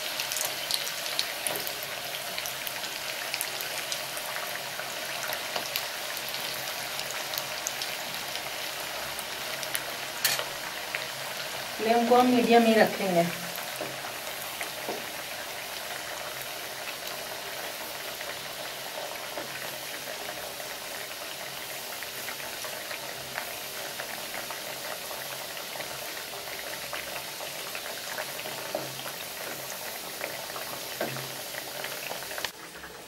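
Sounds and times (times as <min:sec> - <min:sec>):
dough deep-frying in oil: 0:00.0 - 0:33.0.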